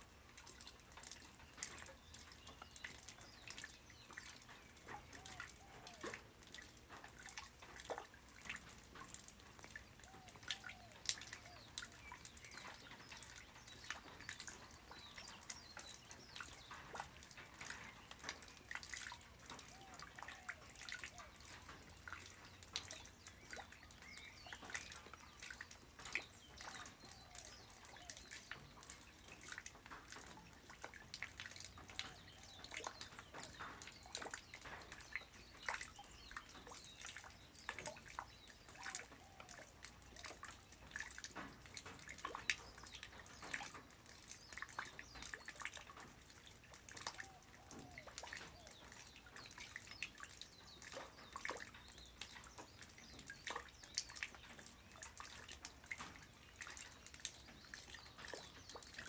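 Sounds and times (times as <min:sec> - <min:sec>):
light rain falling: 0:00.0 - 0:59.0
raindrop impacts and drips: 0:00.0 - 0:59.0.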